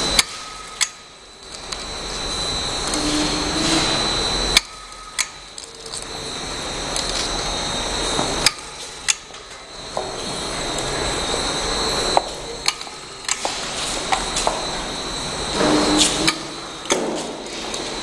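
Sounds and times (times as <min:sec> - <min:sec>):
gear motor running: 0:00.0 - 0:18.0.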